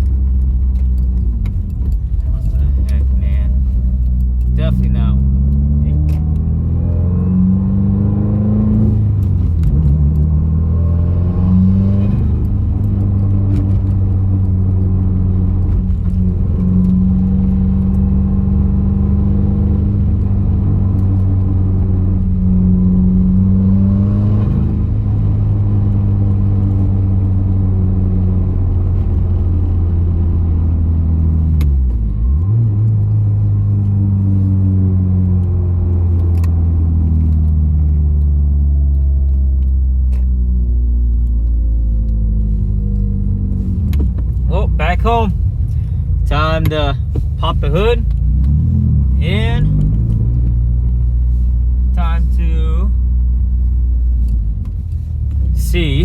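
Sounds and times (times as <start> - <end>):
car engine cruising: 0.0 - 56.0.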